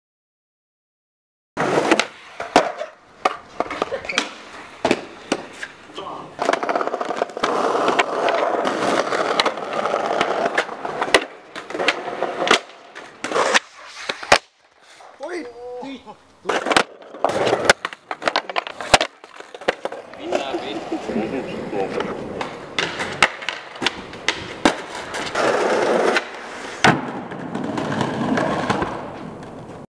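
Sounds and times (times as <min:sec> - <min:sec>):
skateboard slapping ground: 0:01.6 - 0:29.9
skateboard wheels rolling: 0:01.6 - 0:29.9.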